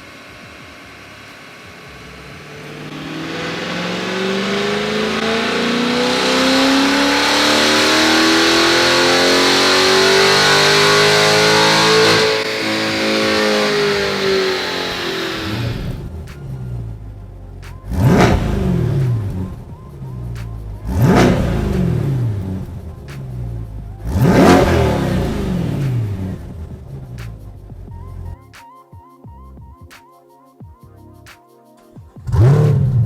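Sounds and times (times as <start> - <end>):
car engine exhaust revving: 0.0 - 28.4, 32.3 - 33.0.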